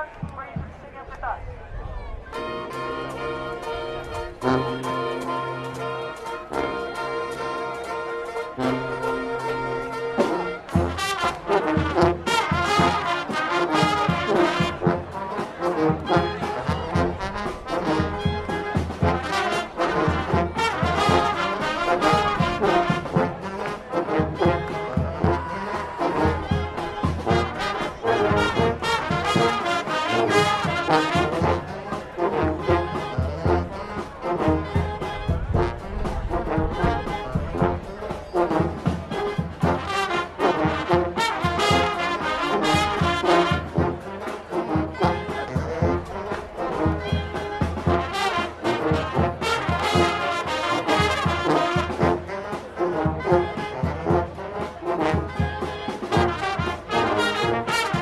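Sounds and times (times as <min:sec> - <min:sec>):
trombones and trumpets: 0:00.0 - 0:58.0.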